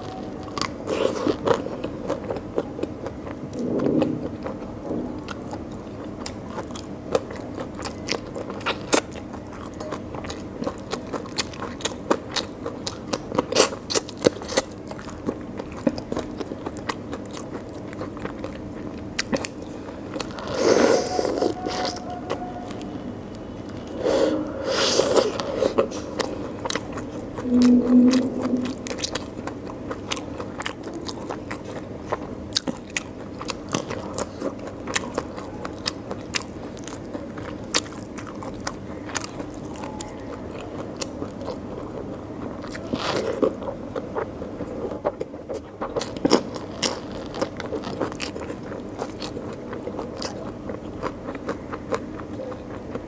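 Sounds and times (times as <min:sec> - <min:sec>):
wet chewing and lip smacking: 0:00.1 - 0:27.5, 0:28.2 - 0:53.0.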